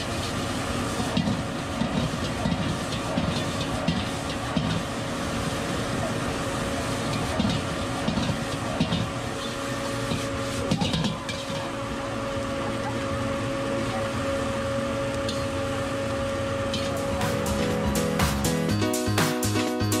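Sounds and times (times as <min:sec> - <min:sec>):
gas burner hum and hiss: 0:00.0 - 0:20.0.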